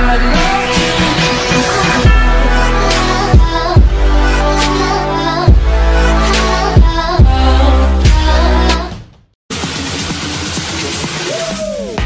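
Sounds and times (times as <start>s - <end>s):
electronic music with heavy bass: 0.0s - 8.9s, 9.5s - 12.0s.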